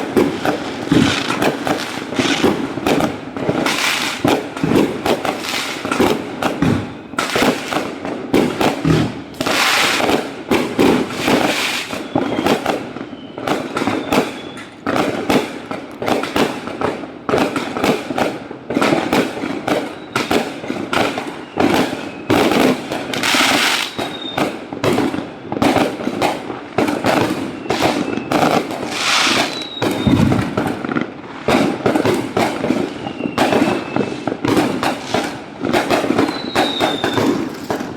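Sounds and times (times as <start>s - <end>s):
firework whistles: 0.0s - 16.4s, 17.3s - 18.2s, 18.9s - 37.9s
fireworks bangs and crackling: 0.0s - 37.9s.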